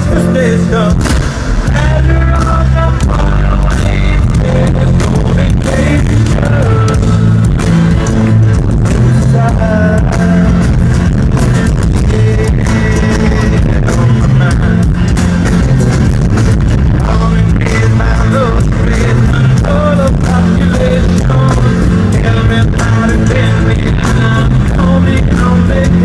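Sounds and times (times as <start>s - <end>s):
person singing: 0.0s - 7.7s, 8.7s - 11.0s, 11.7s - 15.8s, 16.8s - 26.0s
live rock band: 0.0s - 26.0s.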